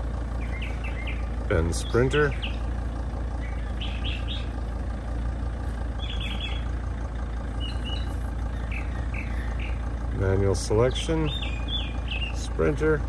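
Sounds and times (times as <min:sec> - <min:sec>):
diesel engine idling: 0:00.0 - 0:13.0
bird chirps: 0:00.3 - 0:04.8, 0:05.8 - 0:10.0, 0:10.8 - 0:12.8.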